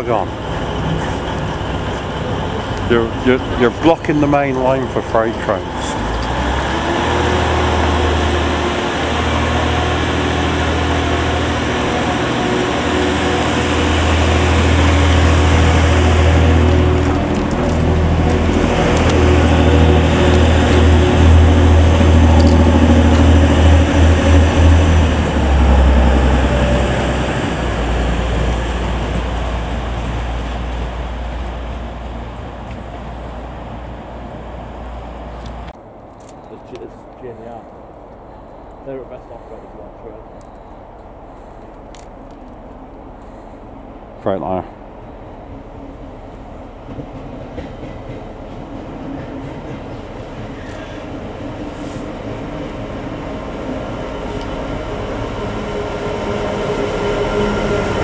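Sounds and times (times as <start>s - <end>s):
diesel train engine drone: 0.0s - 58.0s.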